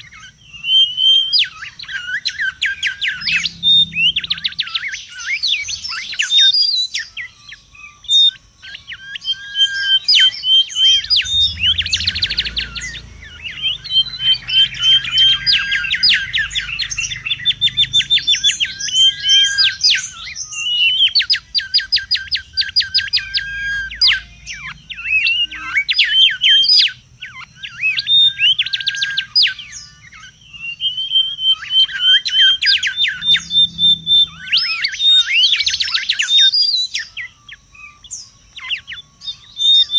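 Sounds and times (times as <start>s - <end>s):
bird singing and chattering: 0.0s - 39.9s.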